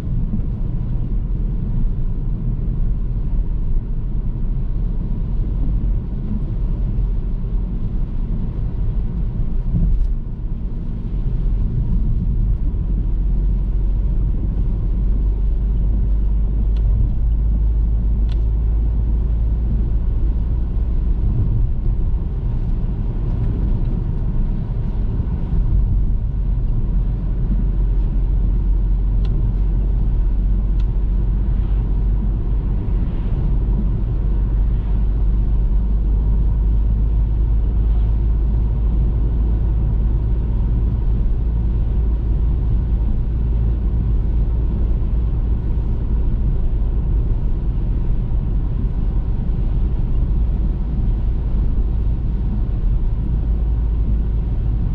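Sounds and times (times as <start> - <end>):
car driving on road: 0.0 - 54.9.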